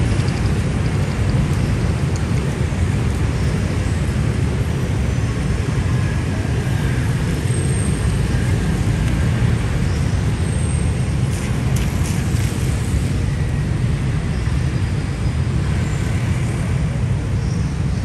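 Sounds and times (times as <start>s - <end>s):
dense road traffic: 0.0s - 18.0s.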